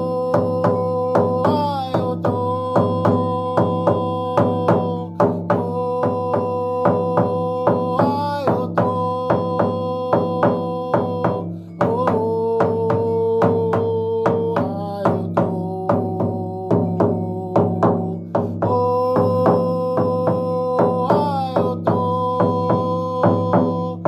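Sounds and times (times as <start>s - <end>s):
drum beating steady pulse: 0.0s - 24.0s.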